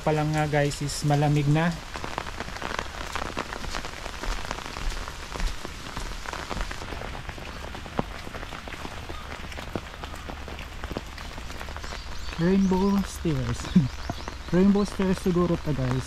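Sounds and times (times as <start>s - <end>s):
raindrops hitting near microphone: 0.0s - 16.0s
steady rain falling: 0.0s - 16.0s.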